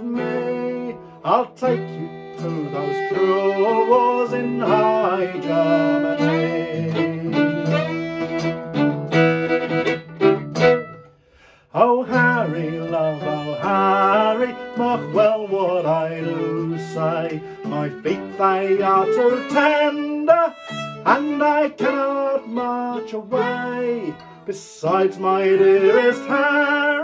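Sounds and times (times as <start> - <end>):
acoustic guitar accompaniment: 0.0 - 27.0
fiddle playing folk melody: 0.0 - 27.0.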